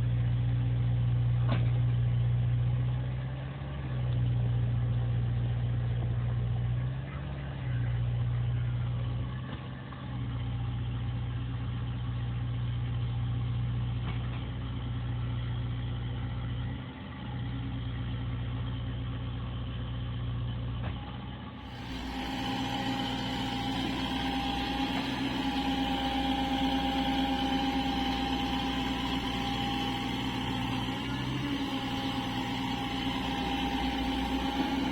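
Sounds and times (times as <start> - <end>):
excavator diesel engine running: 4.4 - 34.9.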